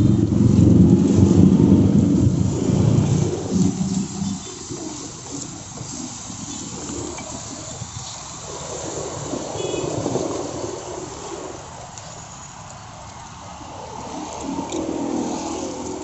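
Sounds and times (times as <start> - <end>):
passing traffic rumble: 0.0 - 16.0.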